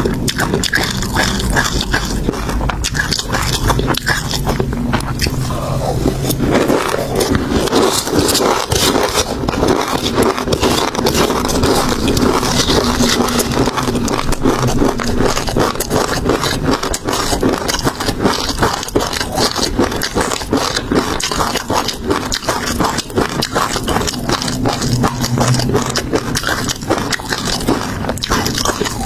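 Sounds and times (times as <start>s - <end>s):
chewing crunchy seafood: 0.0s - 29.0s.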